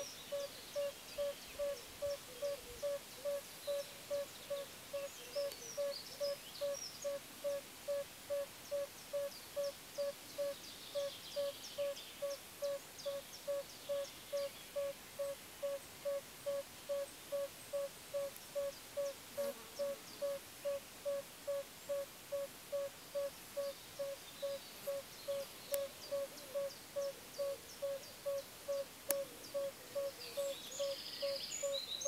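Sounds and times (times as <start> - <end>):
toad calling: 0.0 - 31.9.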